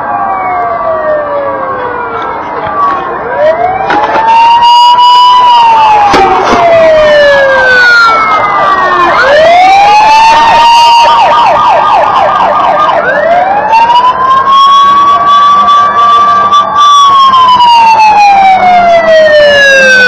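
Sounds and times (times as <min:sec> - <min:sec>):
emergency sirens wailing: 0:00.0 - 0:20.0.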